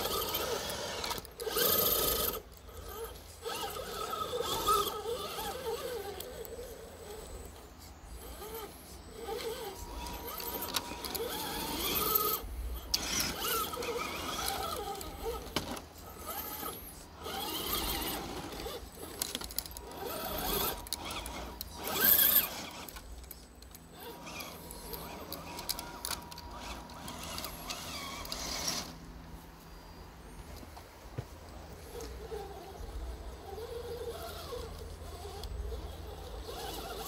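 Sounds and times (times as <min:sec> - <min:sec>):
electric motor and gearbox whine: 0:00.0 - 0:37.0.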